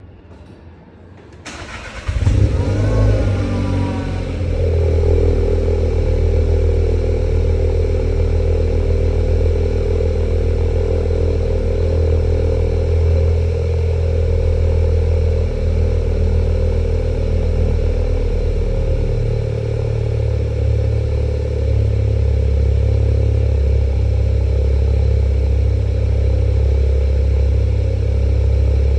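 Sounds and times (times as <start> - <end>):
car engine starting and idling: 1.4 - 28.9.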